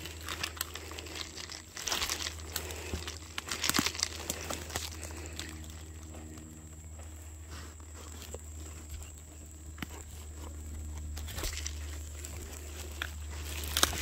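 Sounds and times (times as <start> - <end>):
twigs crackling and snapping: 0.0 - 6.6, 8.2 - 14.0
leaves rustling: 0.0 - 14.0.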